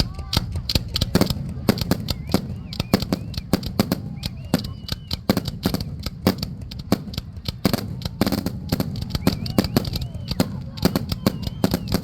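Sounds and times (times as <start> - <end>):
firework whistles: 0.0 - 12.0
fireworks bangs and cracks: 0.0 - 12.0.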